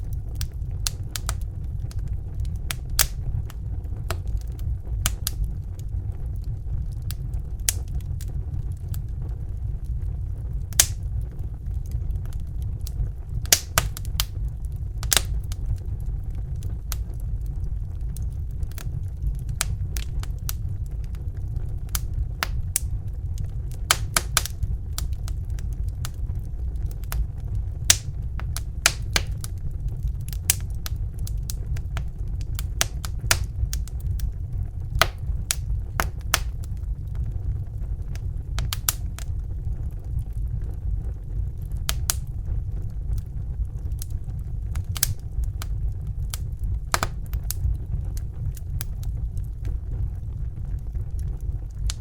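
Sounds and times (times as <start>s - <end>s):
fire popping and snapping: 0.0s - 52.0s
low rumble: 0.0s - 52.0s.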